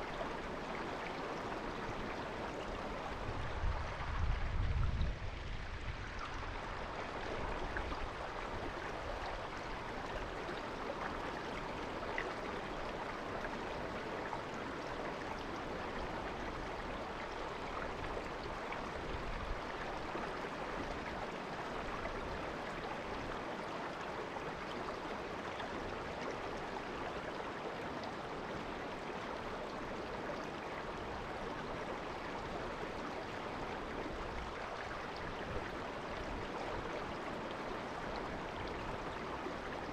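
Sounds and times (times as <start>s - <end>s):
shallow river babbling: 0.0s - 4.4s, 5.2s - 39.9s.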